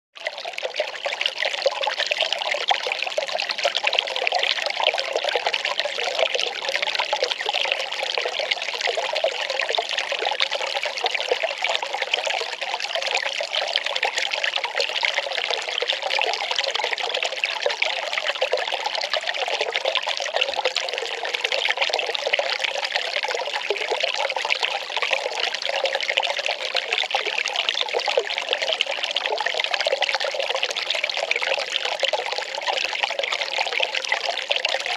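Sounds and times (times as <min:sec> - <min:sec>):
water pouring and trickling: 0:00.2 - 0:34.9.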